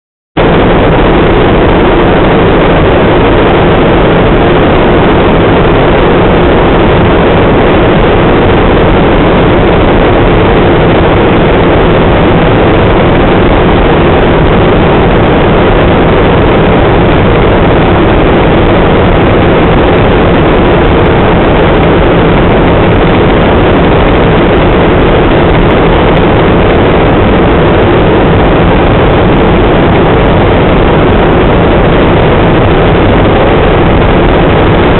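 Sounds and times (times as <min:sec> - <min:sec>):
helicopter engine and rotor drone: 0:00.5 - 0:34.9.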